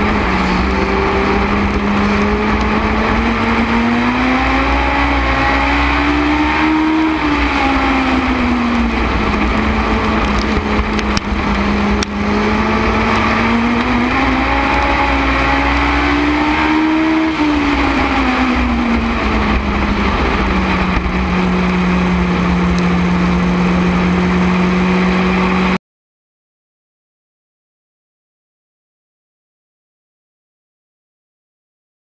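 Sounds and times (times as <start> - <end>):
motorcycle engine running hard: 0.0 - 25.8.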